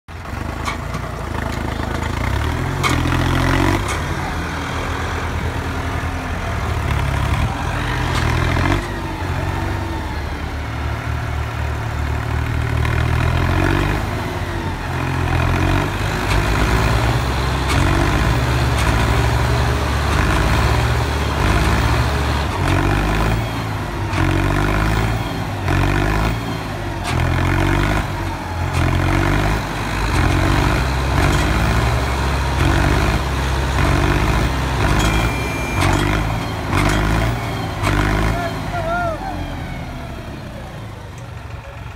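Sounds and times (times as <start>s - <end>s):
tractor engines revving: 0.0s - 41.9s.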